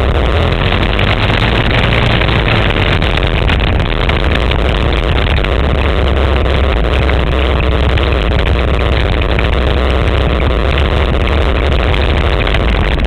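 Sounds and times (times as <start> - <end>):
quad bike engine running: 0.0 - 13.0
wind rumble on microphone: 0.0 - 13.0.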